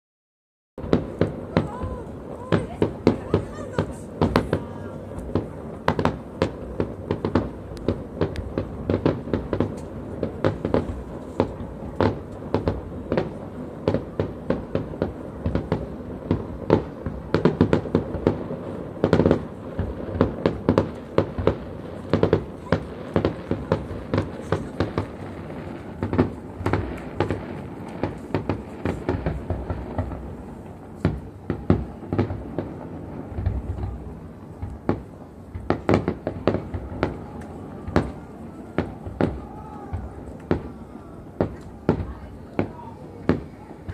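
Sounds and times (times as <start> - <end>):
fireworks bangs and crackles: 0.8 - 43.9.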